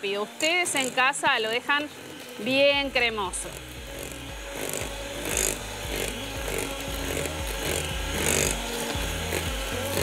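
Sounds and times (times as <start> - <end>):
electric mixer running: 0.0 - 10.0.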